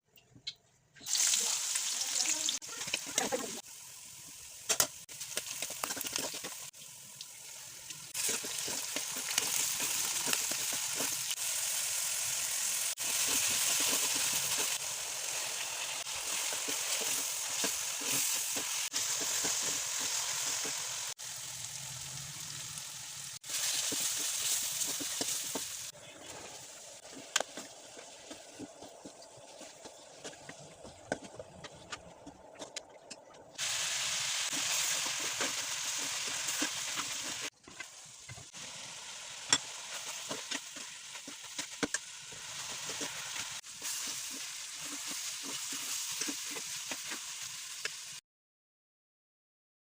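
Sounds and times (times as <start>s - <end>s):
food sizzling in oil: 1.0s - 32.0s, 33.6s - 48.2s.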